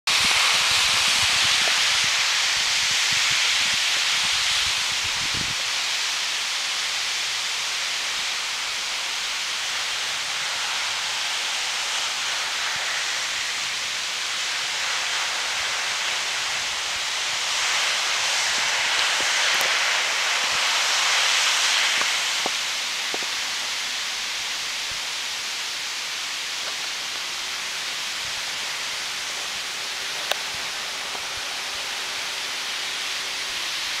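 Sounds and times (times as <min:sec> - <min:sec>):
water washing through slush and ice: 0:00.1 - 0:34.0.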